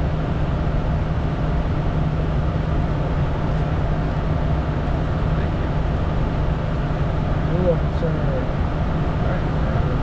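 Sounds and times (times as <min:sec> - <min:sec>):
jet cockpit engine drone: 0:00.0 - 0:10.0.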